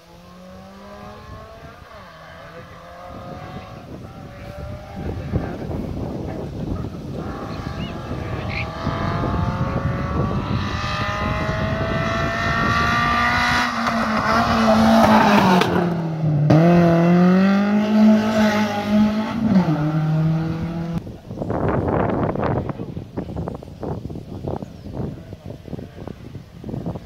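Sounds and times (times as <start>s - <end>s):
rally car engine at full throttle: 0.0s - 27.0s.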